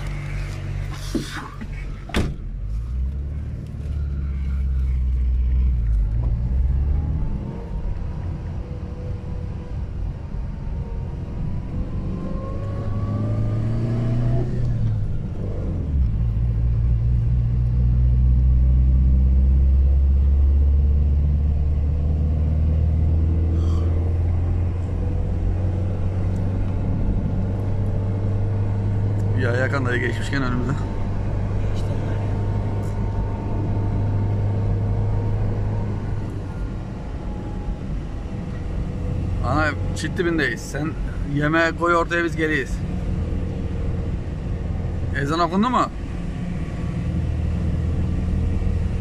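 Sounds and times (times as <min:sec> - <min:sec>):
car engine droning: 0:00.0 - 0:49.0
road noise inside car: 0:00.0 - 0:49.0.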